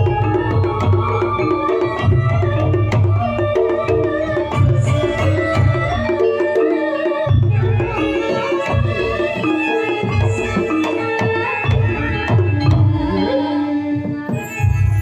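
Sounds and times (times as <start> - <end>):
ensemble playing melodic lines: 0.0 - 15.0.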